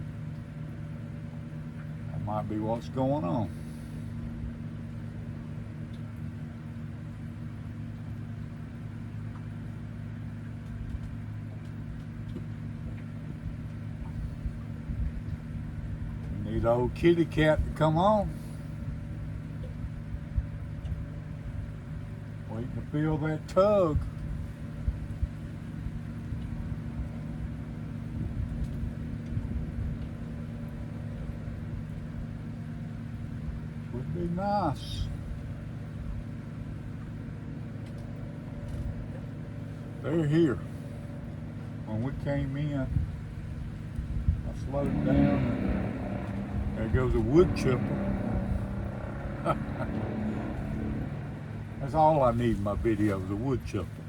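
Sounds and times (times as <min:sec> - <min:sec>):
distant airboat engine droning: 0:00.0 - 0:54.0.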